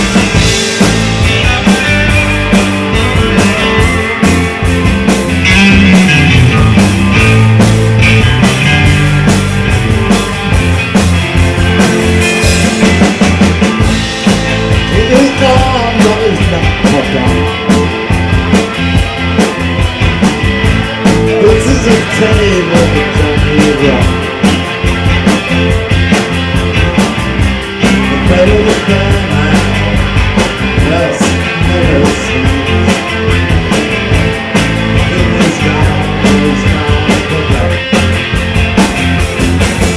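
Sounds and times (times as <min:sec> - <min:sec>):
drums: 0:00.0 - 0:39.9
electric guitars: 0:00.0 - 0:39.9
rock band playing live: 0:00.0 - 0:39.9.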